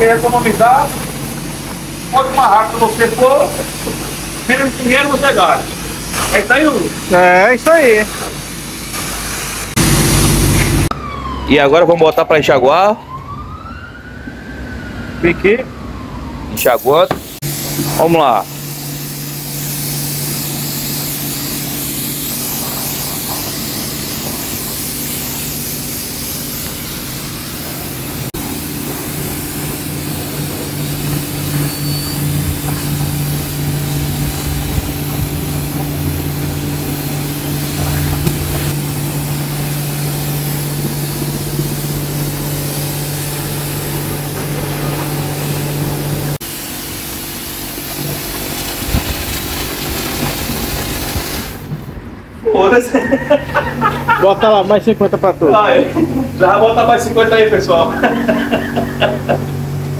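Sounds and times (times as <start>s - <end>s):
pressure washer spray hissing: 0.0s - 10.9s, 16.6s - 51.9s, 55.6s - 59.9s
pressure pump humming: 0.0s - 11.4s, 16.6s - 52.0s, 53.6s - 59.9s.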